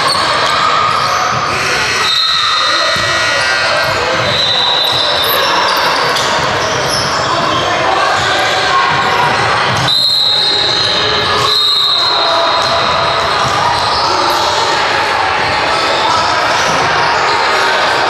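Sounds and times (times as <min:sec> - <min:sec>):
sneaker squeaks: 0:00.0 - 0:14.8
players' voices in a hall: 0:00.0 - 0:18.0.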